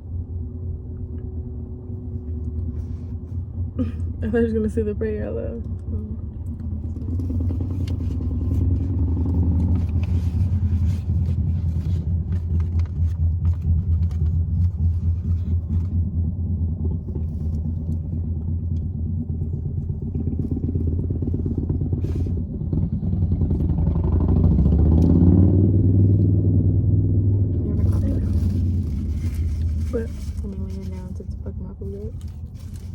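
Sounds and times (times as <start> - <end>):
car cabin rumble: 0.0 - 25.0, 26.1 - 32.9.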